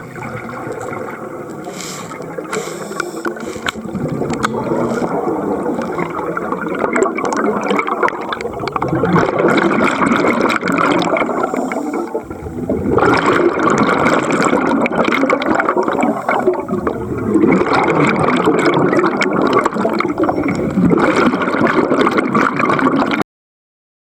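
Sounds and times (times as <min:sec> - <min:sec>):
water bubbling and gurgling: 0:00.0 - 0:23.2
small crackles: 0:00.1 - 0:23.2.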